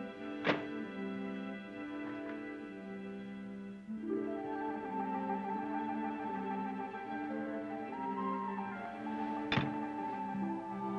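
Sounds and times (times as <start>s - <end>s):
orchestral film music: 0.0s - 10.9s.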